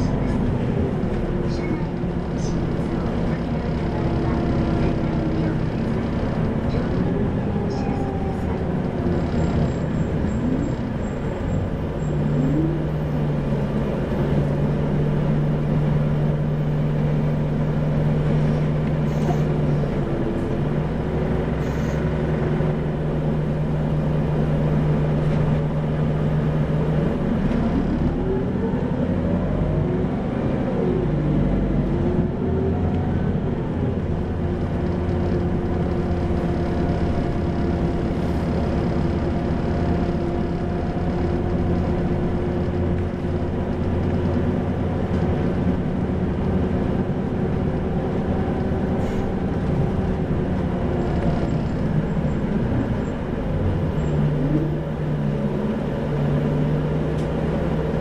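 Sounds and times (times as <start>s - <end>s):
bus diesel engine revving: 0.0s - 58.0s.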